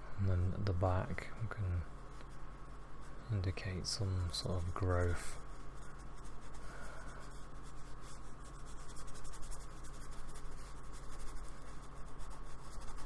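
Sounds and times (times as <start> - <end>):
low steady hum: 0.0 - 13.0
paintbrush scratching on paper: 2.2 - 13.0.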